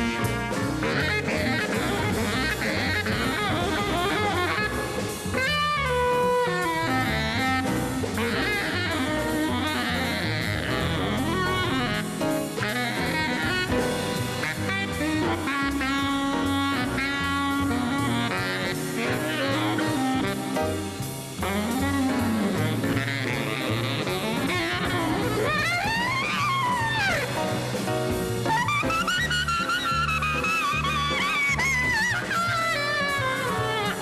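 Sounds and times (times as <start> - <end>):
baritone saxophone jazz solo: 0.0 - 34.0
bass: 0.0 - 34.0
drums: 0.0 - 34.0.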